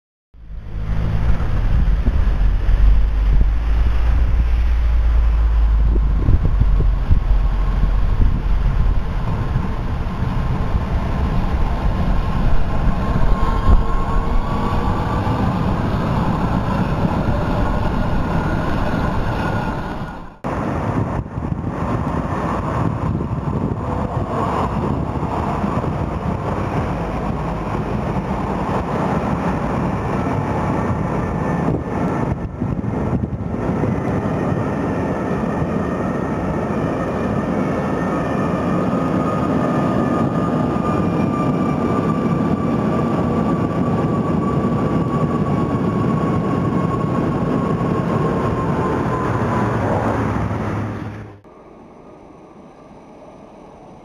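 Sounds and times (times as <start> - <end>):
falling whine: 0.4 - 54.0
tram wheels rumbling on rails: 0.4 - 54.0.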